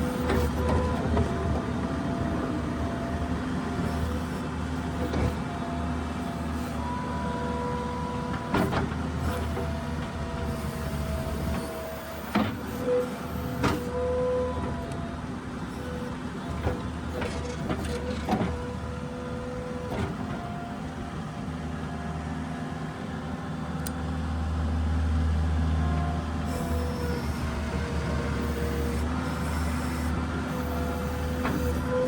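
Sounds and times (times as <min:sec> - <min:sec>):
diesel engine under load: 0:00.0 - 0:32.0
engine whine: 0:00.0 - 0:32.0.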